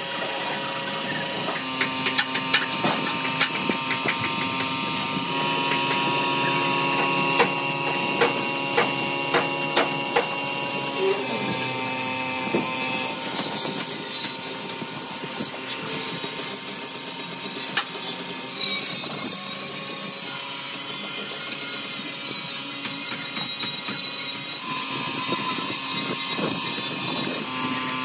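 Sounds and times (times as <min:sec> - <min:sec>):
motor humming: 0:00.0 - 0:28.0.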